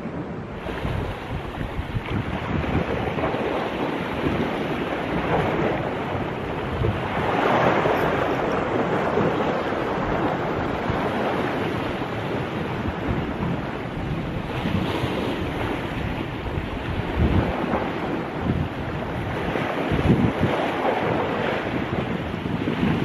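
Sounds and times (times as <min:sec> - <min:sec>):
sea waves washing against rocks: 0:00.0 - 0:23.0
wind rumbling on microphone: 0:00.0 - 0:23.0.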